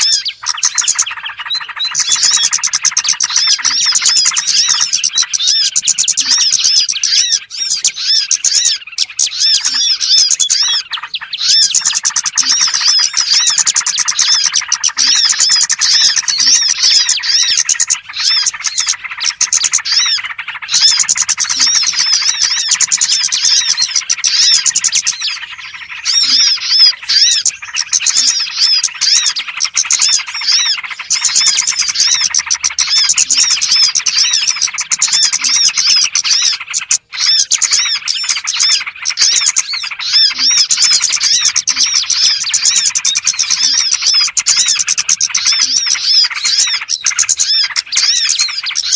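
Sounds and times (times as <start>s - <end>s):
songbirds twittering and chirping: 0.0s - 48.9s.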